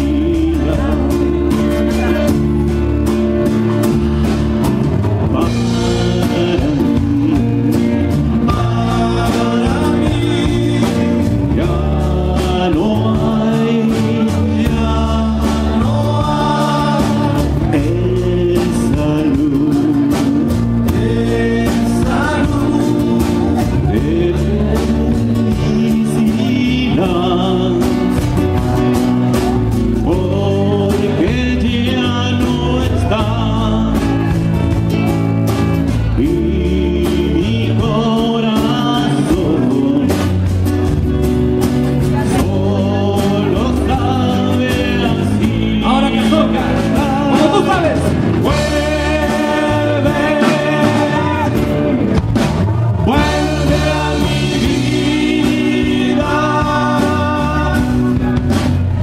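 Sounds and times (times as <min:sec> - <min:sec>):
acoustic guitar: 0:00.0 - 0:59.0
congas: 0:00.0 - 0:59.0
drum kit beat: 0:00.0 - 0:59.0
man singing: 0:00.0 - 0:59.0.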